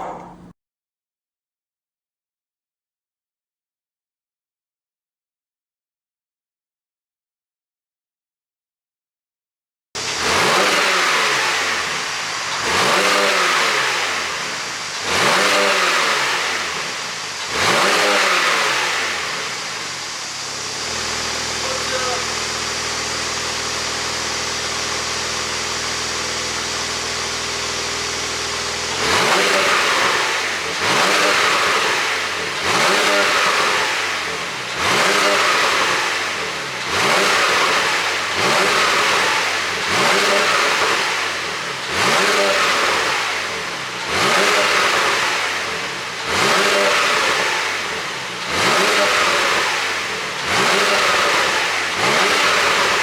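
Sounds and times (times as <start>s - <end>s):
car exhaust idling and revving: 0.0s - 0.5s, 10.0s - 53.0s.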